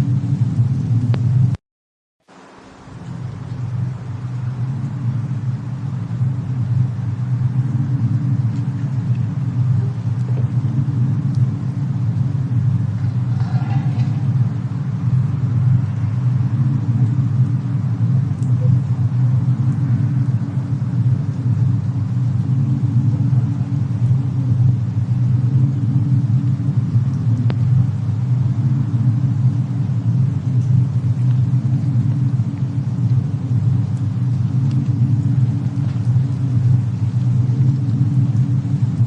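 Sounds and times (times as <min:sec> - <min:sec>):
faint fire crackles: 0:00.0 - 0:01.6, 0:02.2 - 0:39.0
low rumble of snowstorm: 0:00.0 - 0:01.6, 0:02.2 - 0:39.0.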